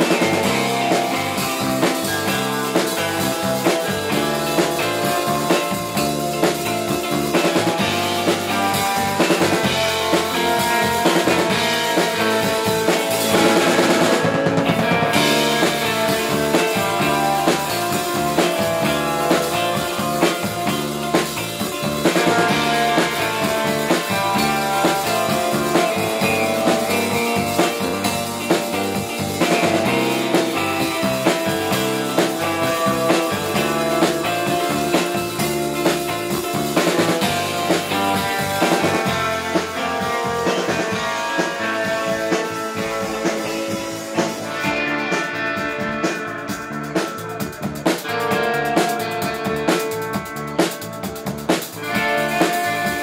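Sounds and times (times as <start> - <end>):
drum kit beat: 0.0 - 53.0
electric bass: 0.0 - 53.0
twangy electric lead guitar: 0.0 - 53.0.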